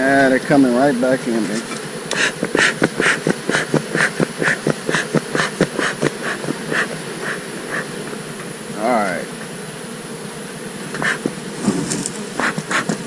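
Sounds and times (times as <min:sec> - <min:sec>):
bellows hissing air: 0:01.0 - 0:13.0.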